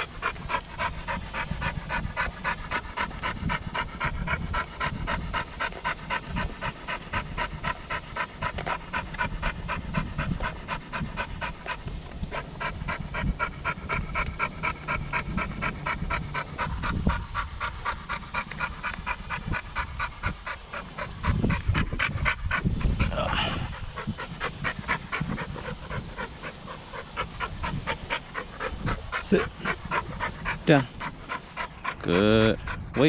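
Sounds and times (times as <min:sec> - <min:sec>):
dog panting: 0:00.0 - 0:33.0.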